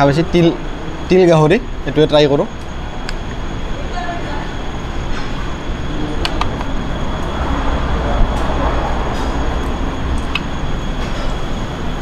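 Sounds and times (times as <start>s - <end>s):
steady rumbling: 0.0s - 12.0s
thin high whine: 0.0s - 12.0s.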